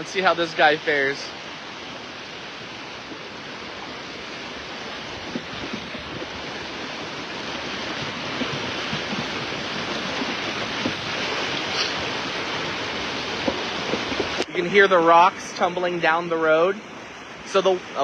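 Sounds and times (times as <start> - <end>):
flood water rushing: 0.0 - 18.0.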